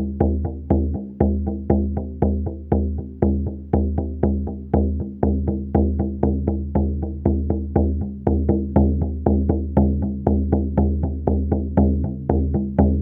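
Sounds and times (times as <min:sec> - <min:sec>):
frame drum beaten steadily: 0:00.0 - 0:13.0.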